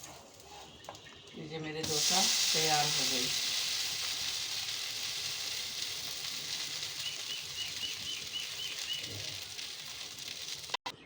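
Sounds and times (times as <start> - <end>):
food sizzling on a griddle: 1.8 - 10.8.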